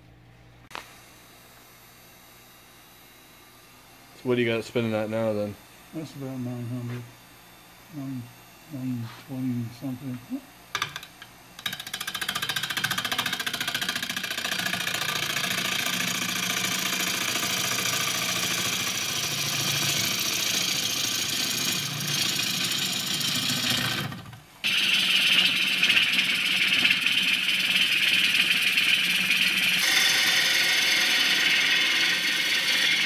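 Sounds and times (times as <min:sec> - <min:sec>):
lathe low hum: 0:00.0 - 0:33.0.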